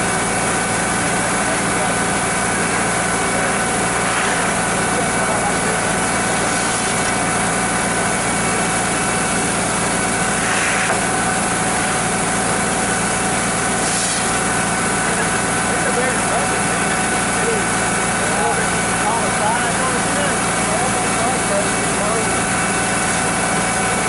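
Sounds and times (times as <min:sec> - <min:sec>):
grain auger running: 0:00.0 - 0:24.0.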